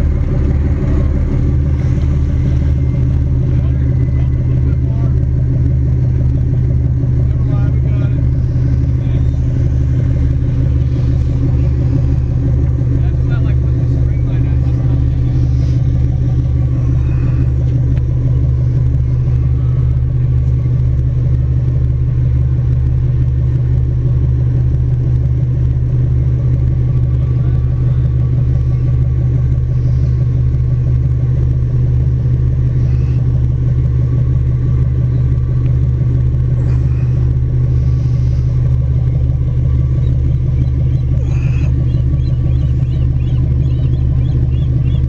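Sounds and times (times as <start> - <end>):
diesel engines idling: 0.0 - 45.0.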